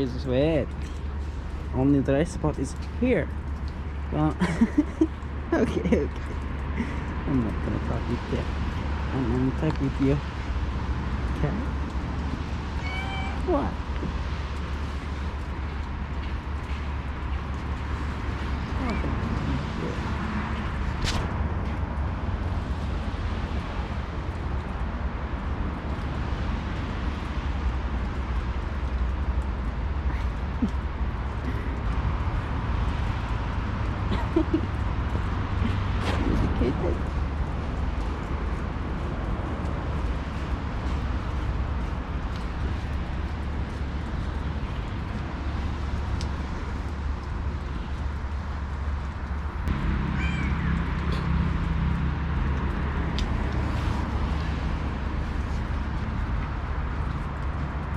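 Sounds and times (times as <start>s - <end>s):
low outdoor rumble: 0.0s - 57.9s.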